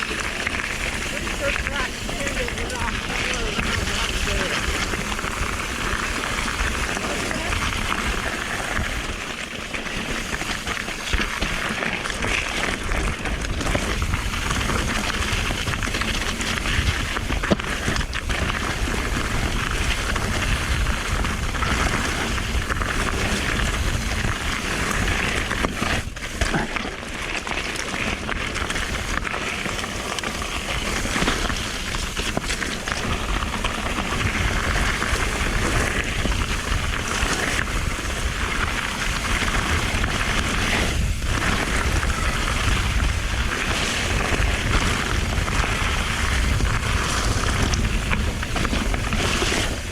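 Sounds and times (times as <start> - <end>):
bike knocking and rattling: 0.0 - 49.9
tyre rain and wind rush: 0.0 - 49.9.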